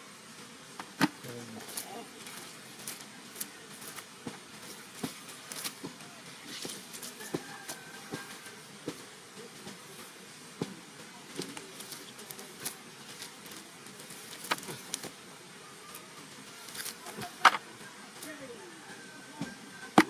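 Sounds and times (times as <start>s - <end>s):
net and grass rustling: 0.0s - 18.6s.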